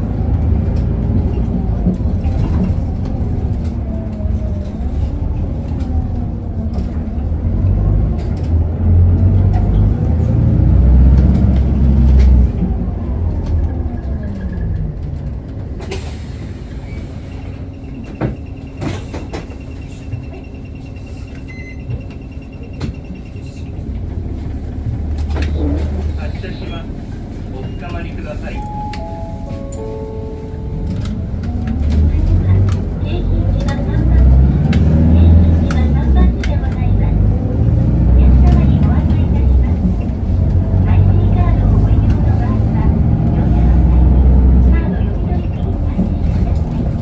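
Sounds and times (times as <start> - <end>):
bus diesel engine: 0.0 - 47.0.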